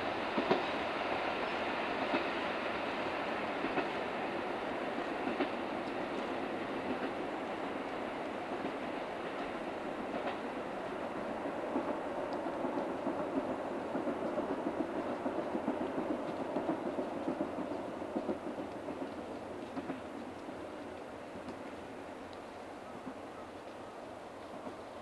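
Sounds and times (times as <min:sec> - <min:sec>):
train wheels clattering on rails: 0:00.0 - 0:25.0.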